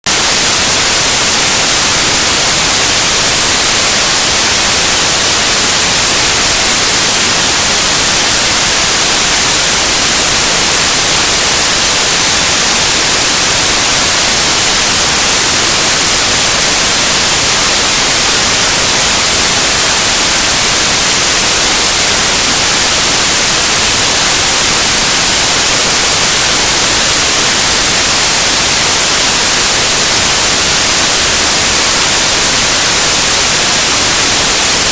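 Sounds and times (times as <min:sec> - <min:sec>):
loud static hiss: 0:00.0 - 0:34.9.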